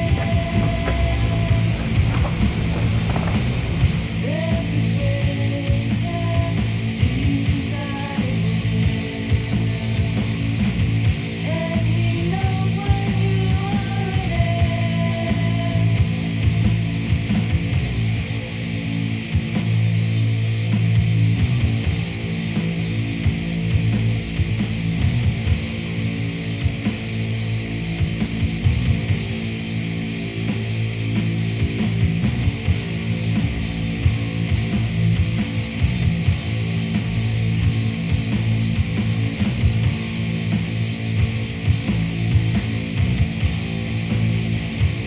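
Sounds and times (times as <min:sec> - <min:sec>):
rock music with distorted guitars: 0:00.0 - 0:45.0.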